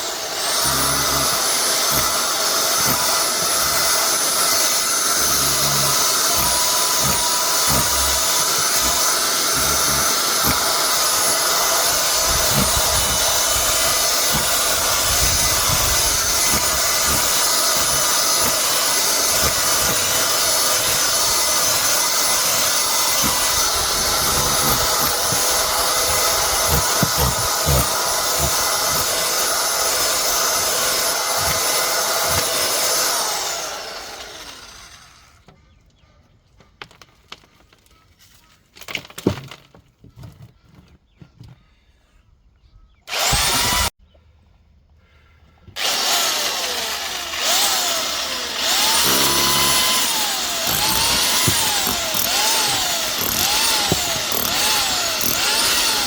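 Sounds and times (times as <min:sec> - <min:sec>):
hammer drill chipping brick: 0:00.0 - 0:35.2, 0:43.1 - 0:43.9, 0:45.8 - 0:56.0.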